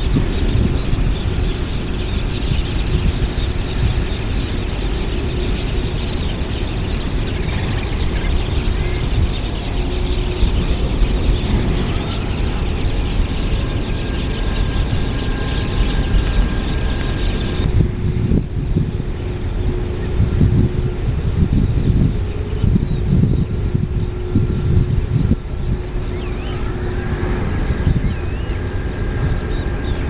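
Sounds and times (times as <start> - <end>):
faint steady hums: 0.0 - 30.0
low rumbling: 0.0 - 30.0.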